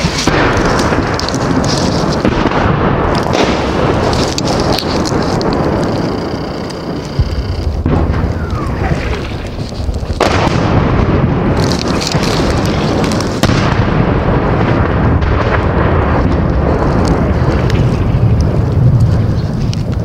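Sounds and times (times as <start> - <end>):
loud explosion-like rumbling: 0.0 - 20.0.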